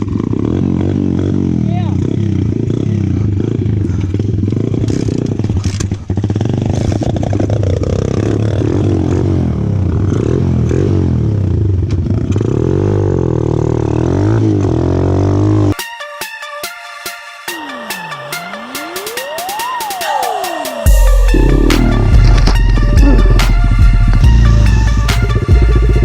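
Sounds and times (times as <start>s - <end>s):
pit bike engine revving: 0.0s - 15.8s, 20.7s - 26.0s.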